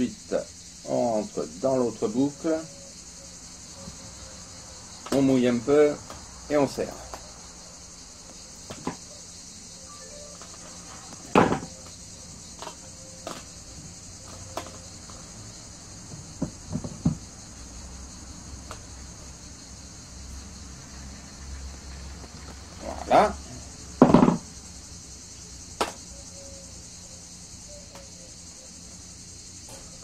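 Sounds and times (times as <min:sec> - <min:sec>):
steady high-pitched hiss: 0:00.0 - 0:30.0.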